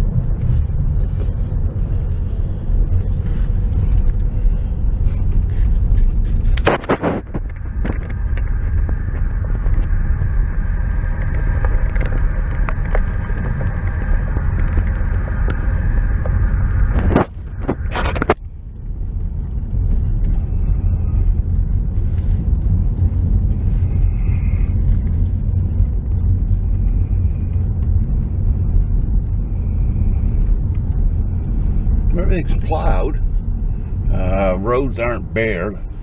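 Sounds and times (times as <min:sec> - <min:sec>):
car rumbling: 0:00.0 - 0:36.0.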